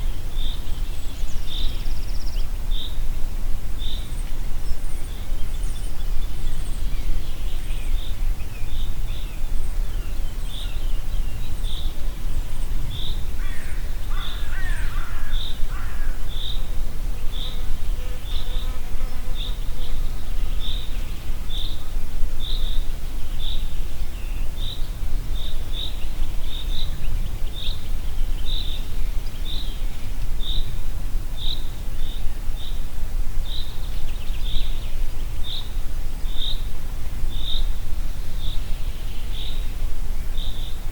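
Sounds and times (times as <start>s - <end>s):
wind in a forest: 0.0s - 40.9s.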